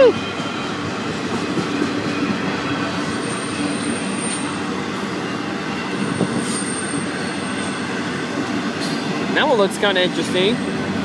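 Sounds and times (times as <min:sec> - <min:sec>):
freight cars rolling on rails: 0:00.0 - 0:11.0.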